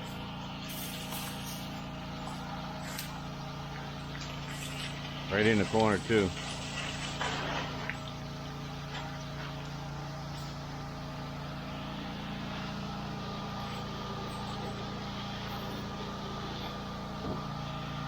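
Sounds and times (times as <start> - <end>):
pump engine droning: 0.0 - 18.0.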